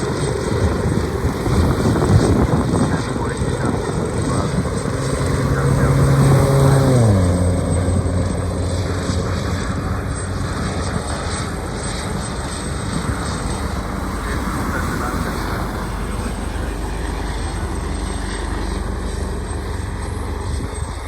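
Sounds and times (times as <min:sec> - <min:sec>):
aircraft engine hum passing: 0:00.0 - 0:21.0
steady rushing noise: 0:00.0 - 0:21.0.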